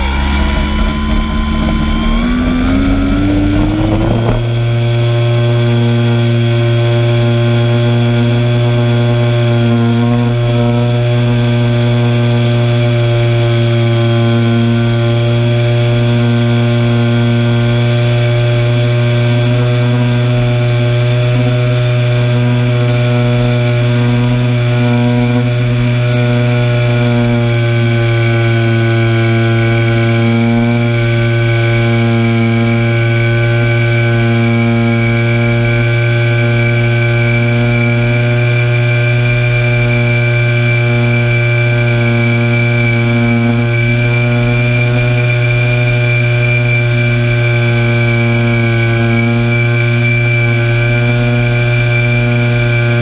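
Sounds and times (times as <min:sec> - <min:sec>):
model airplane engine buzzing: 0:00.0 - 0:53.0.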